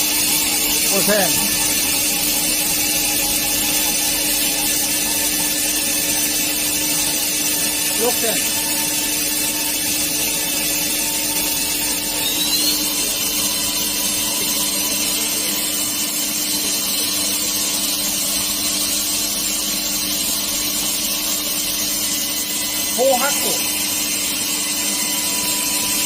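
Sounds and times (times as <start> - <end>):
cnc spindle whine: 0.0 - 26.0.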